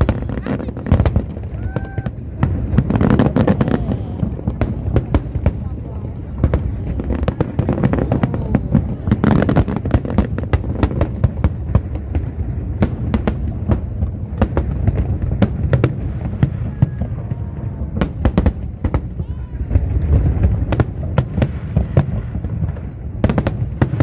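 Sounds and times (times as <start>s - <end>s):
fireworks bangs and cracks: 0.0s - 24.0s
low rumble of distant explosions: 0.0s - 24.0s.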